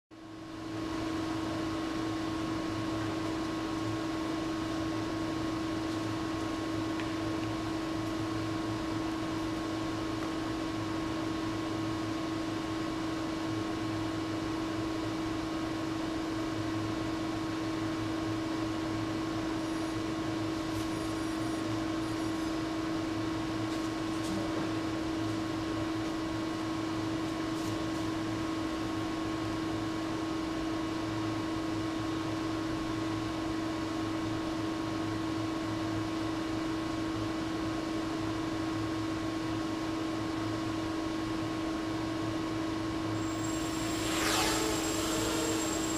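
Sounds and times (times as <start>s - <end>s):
steady mechanical hum: 0.1s - 45.9s.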